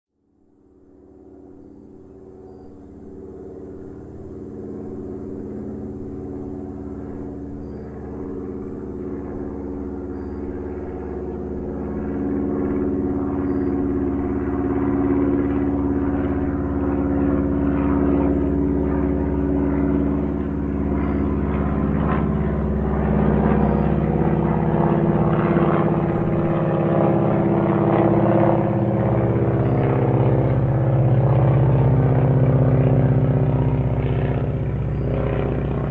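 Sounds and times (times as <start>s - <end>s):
small airplane engine droning: 0.2s - 35.9s.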